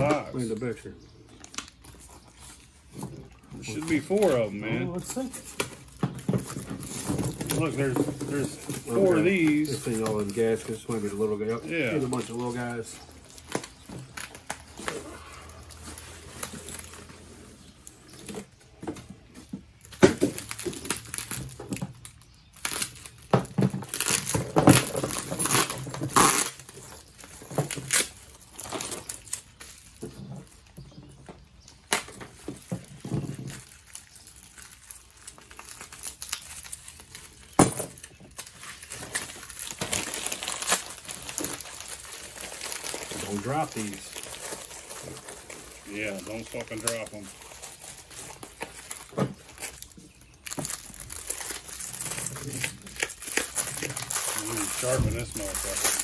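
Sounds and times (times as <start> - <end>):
bubble wrap crinkling: 0.0 - 56.0.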